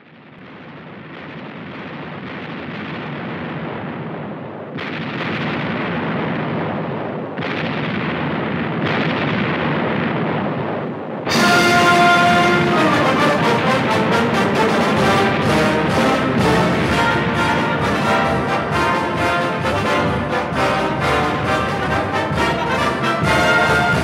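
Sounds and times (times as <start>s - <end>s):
explosions: 0.0s - 24.0s
heavy gunfire: 0.0s - 24.0s.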